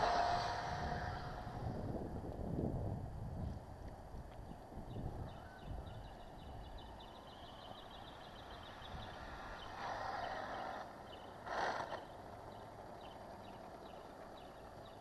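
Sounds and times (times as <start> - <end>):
rc car motor and tyres: 0.0 - 15.0.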